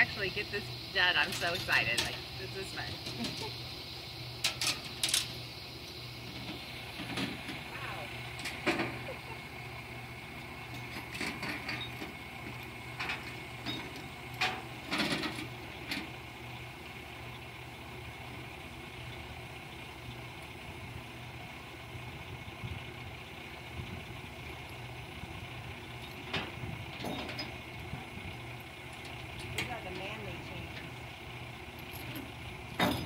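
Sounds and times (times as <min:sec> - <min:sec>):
truck engine idling: 0:00.0 - 0:33.0.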